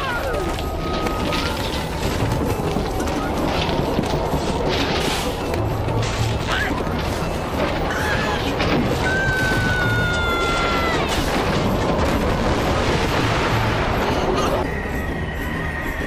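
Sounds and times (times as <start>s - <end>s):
dramatic music: 0.3s - 16.0s
crashing booming debris: 0.4s - 14.7s.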